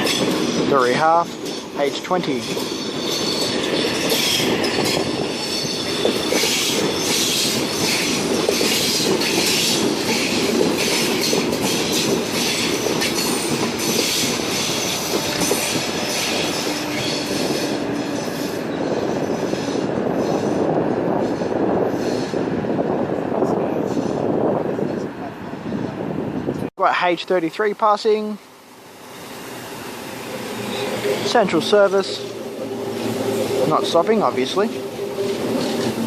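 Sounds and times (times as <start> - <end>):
train wheel and rail noise: 0.0 - 36.0.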